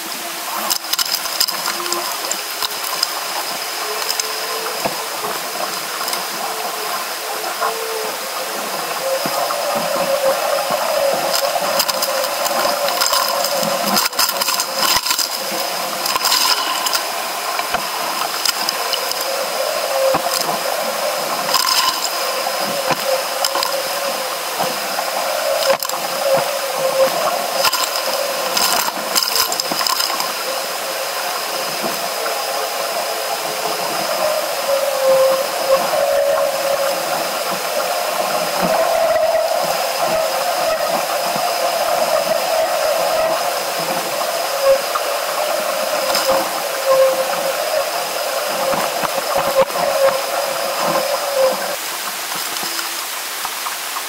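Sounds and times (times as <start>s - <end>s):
water rushing along a hull: 0.0s - 54.0s.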